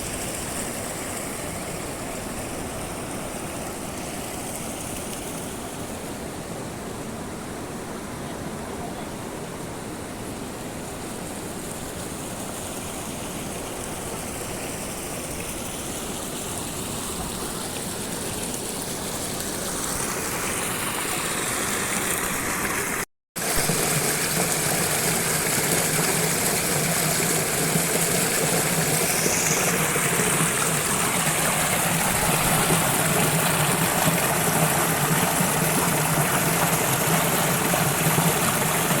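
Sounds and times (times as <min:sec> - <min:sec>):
waterfall and rushing river: 0:00.0 - 0:39.0.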